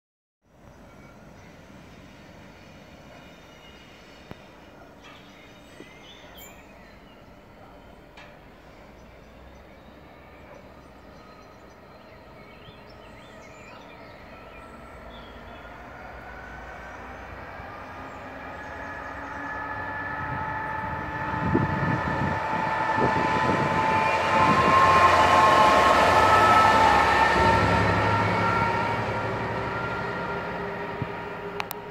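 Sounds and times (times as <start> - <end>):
diesel locomotive passing: 0.5 - 31.9.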